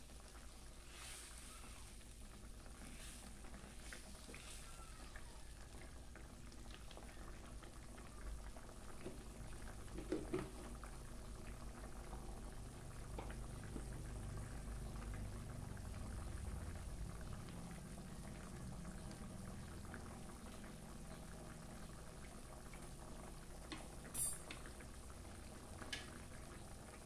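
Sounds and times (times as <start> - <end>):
pot of soup bubbling: 0.0 - 27.0.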